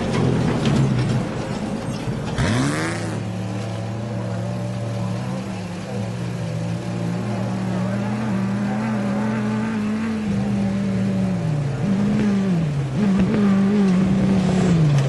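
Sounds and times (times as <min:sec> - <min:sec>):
engine revving and idling: 0:02.3 - 0:15.0.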